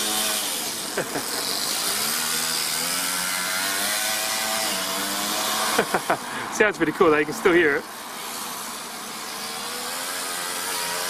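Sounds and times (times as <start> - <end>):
small engine buzzing: 0.0 - 11.0.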